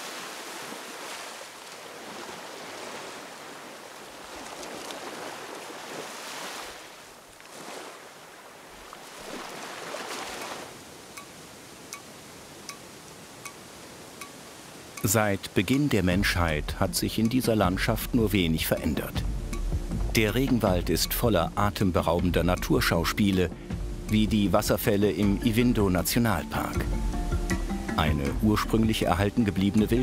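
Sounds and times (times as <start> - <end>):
ocean surf breaking: 0.0 - 29.3.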